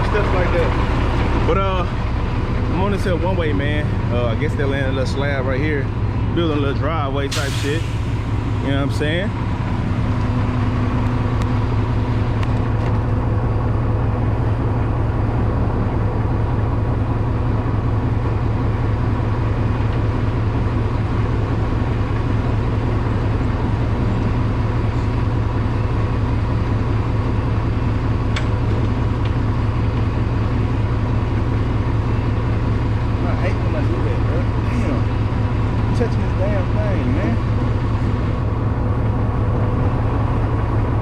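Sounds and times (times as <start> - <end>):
diesel truck engine droning: 0.0 - 41.0.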